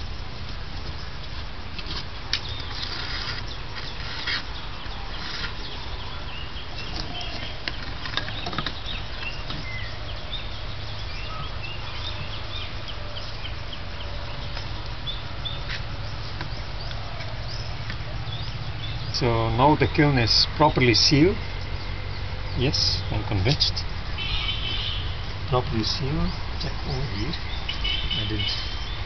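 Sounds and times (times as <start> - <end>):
bird chirps: 2.3 - 29.0.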